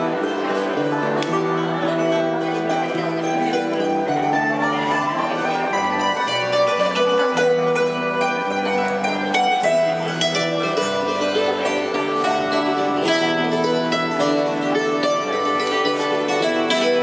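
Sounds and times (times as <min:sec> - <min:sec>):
acoustic guitar: 0:00.0 - 0:17.0
hammered dulcimer: 0:00.0 - 0:17.0.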